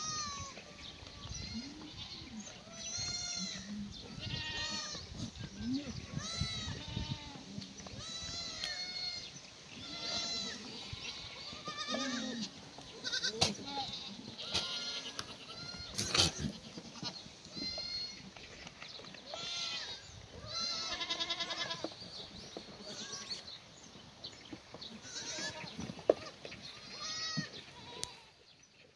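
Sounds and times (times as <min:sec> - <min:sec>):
goats bleating: 0:00.0 - 0:18.4, 0:19.2 - 0:22.0, 0:22.7 - 0:23.5, 0:24.9 - 0:28.4.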